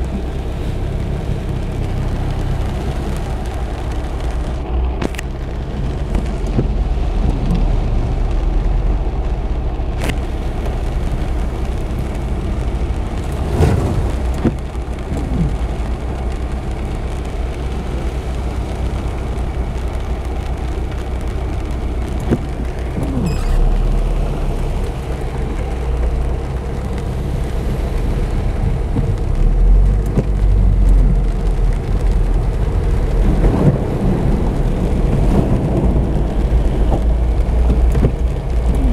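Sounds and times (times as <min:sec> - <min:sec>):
heavy rain on car roof: 0:00.0 - 0:38.9
steady low rumble: 0:00.0 - 0:38.9.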